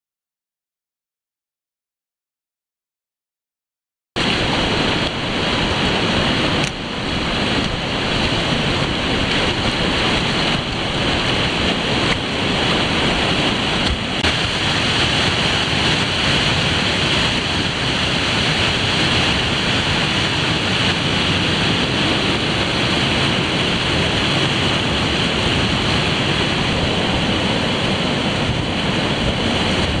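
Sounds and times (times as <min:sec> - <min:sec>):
water rushing over rocks: 0:04.2 - 0:30.0.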